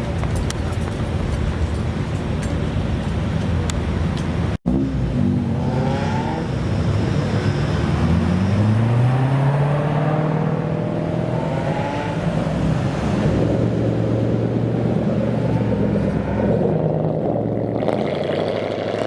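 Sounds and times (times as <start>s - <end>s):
car engine accelerating: 3.4s - 19.0s.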